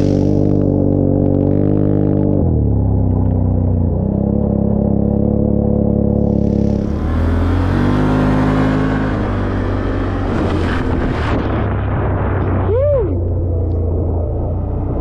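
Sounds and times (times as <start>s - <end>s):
vehicle engine driving: 0.0s - 15.0s.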